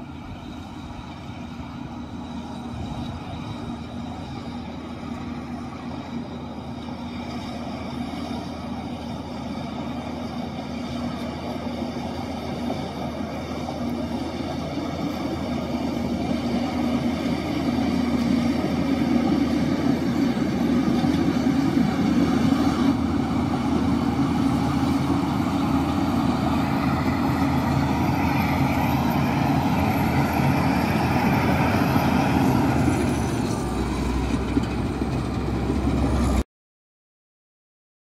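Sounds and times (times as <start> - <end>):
heavy diesel engine under load: 0.0 - 36.4.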